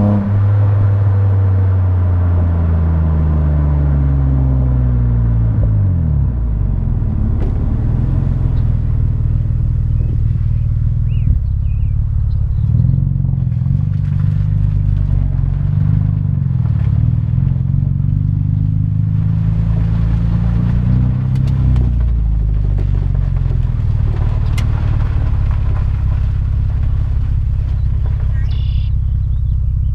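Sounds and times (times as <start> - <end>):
car exhaust droning: 0.0 - 29.9.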